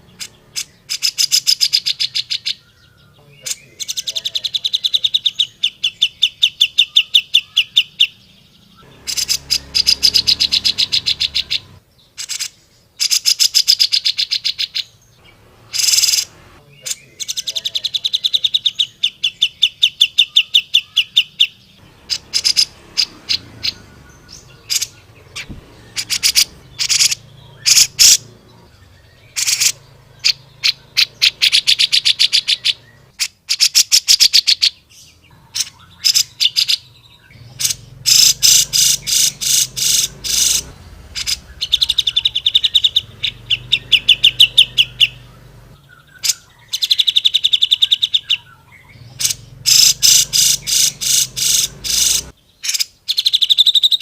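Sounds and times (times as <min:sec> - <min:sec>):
bird calling sharp repeated notes: 0:00.0 - 0:08.2, 0:08.8 - 0:54.0.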